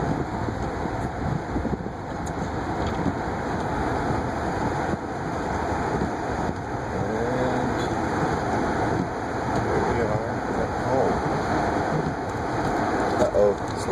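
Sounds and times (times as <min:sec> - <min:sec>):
car engine: 0:00.0 - 0:13.9
tyres on snowy road: 0:00.0 - 0:13.9.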